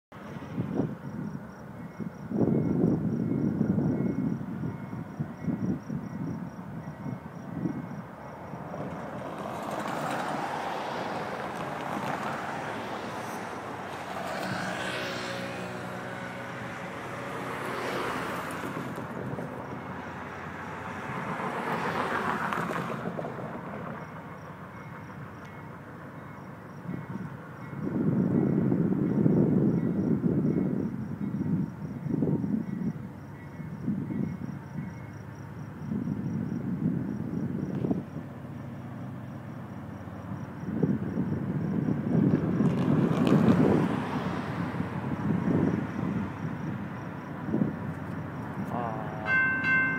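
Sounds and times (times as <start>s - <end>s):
wind gusts on microphone: 0.2s - 24.0s, 26.7s - 49.9s
road vehicles passing: 0.2s - 49.9s.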